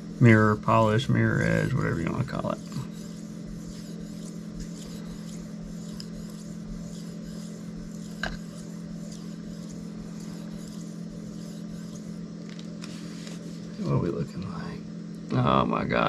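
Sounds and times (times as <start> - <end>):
steady low hum: 0.0 - 16.0
knife scraping on whetstone: 0.7 - 13.9.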